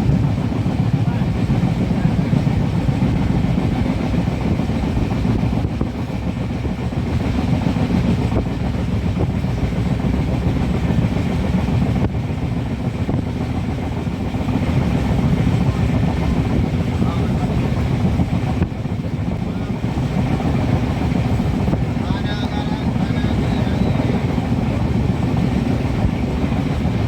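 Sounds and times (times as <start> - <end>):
passenger train rumbling: 0.0 - 27.0.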